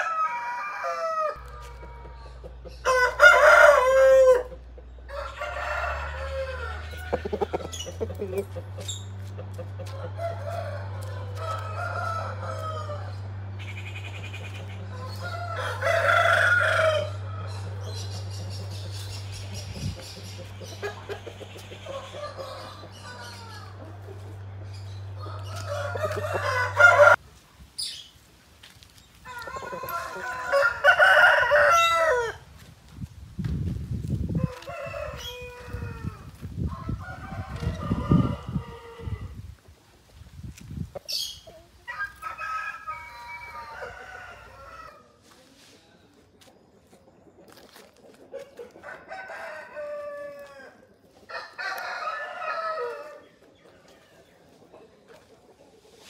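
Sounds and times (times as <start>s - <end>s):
roosters crowing: 0.0s - 27.2s, 28.6s - 32.6s, 34.1s - 39.6s, 41.1s - 45.4s, 48.5s - 53.7s.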